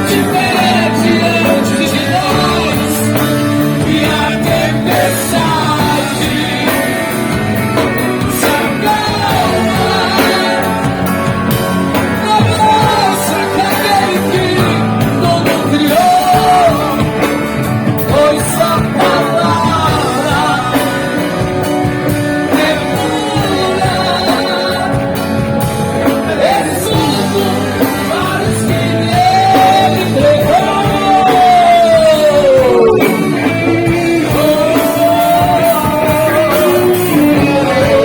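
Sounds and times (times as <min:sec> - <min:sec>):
live rock band playing: 0:00.0 - 0:38.0.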